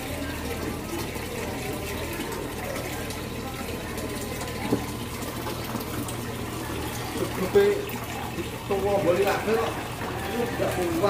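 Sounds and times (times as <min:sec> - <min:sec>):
water splashing from fountain: 0:00.0 - 0:11.0.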